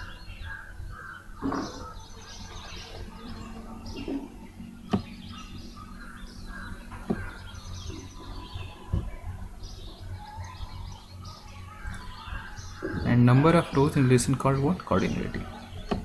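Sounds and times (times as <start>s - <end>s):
birds chirping: 0.0s - 16.0s
low steady hum: 0.0s - 16.0s.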